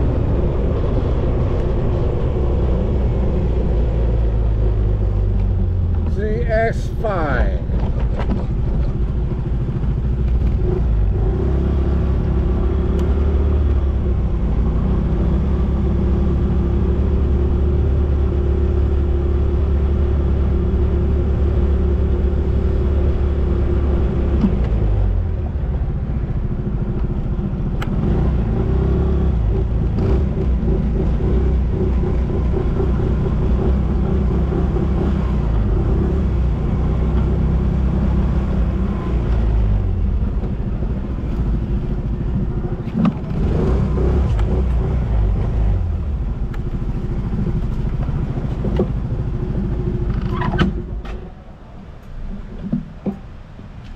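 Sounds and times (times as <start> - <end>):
road and wind rumble: 0.0 - 53.9.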